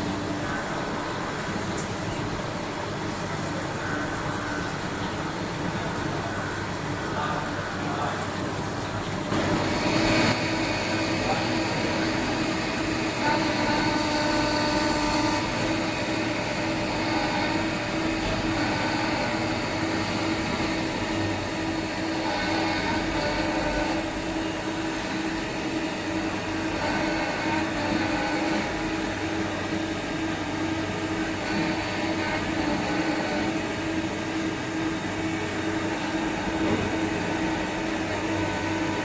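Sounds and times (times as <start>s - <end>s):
milling machine humming: 0.0s - 39.0s.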